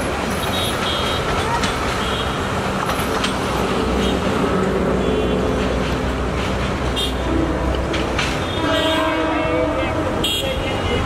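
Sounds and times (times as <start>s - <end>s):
train coaches rumbling: 0.0s - 11.0s.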